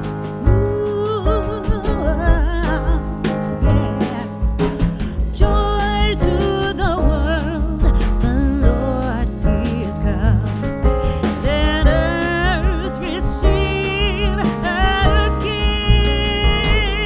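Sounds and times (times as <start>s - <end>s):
band with bass and drums: 0.0s - 17.0s
person singing with vibrato: 0.4s - 17.0s.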